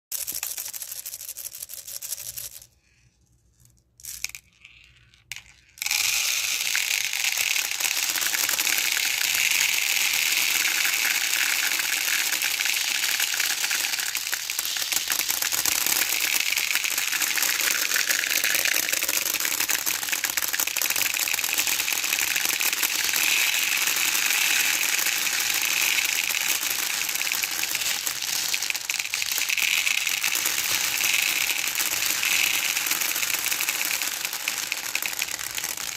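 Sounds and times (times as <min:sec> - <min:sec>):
small beads pouring and rattling: 0:00.1 - 0:35.9.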